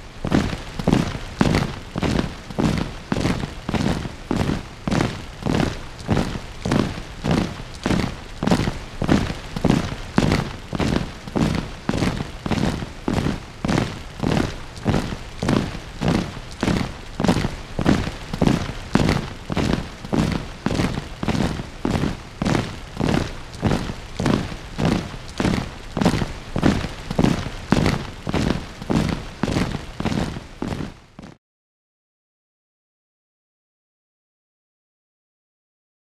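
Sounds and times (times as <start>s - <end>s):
marching footsteps on concrete: 0.0s - 31.4s.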